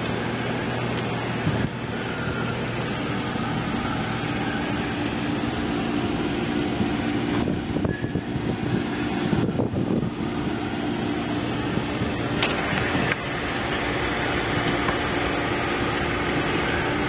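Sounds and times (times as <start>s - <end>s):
car engine running: 0.0s - 17.0s
tyres on the road: 0.0s - 17.0s.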